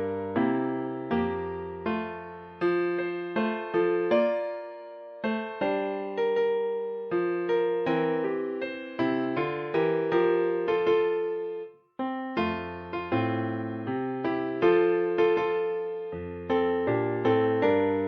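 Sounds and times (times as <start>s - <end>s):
piano-like keyboard music: 0.0s - 18.0s.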